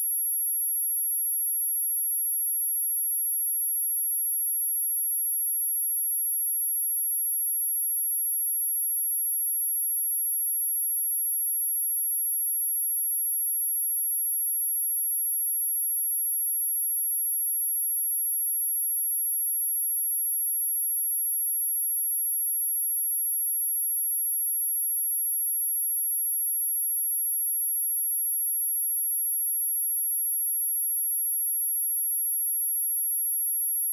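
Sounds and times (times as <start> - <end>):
high-pitched sine test tone: 0.0 - 33.9.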